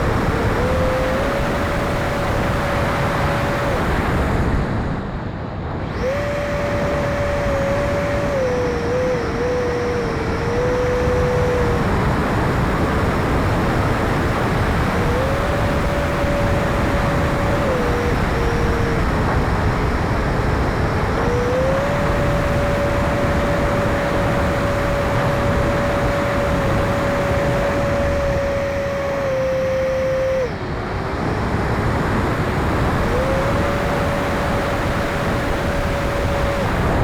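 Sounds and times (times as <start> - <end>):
electric ducted fan whining: 0.0 - 37.0.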